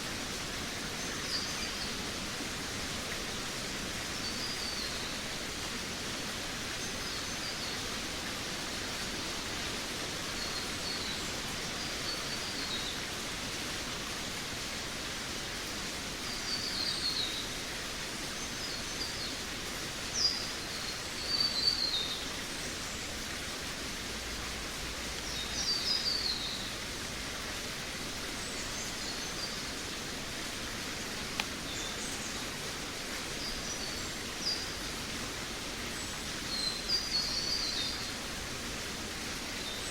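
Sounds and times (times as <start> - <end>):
steady background hiss: 0.0 - 39.9
forest birds chirping: 0.4 - 2.3, 3.3 - 14.7, 15.3 - 39.9.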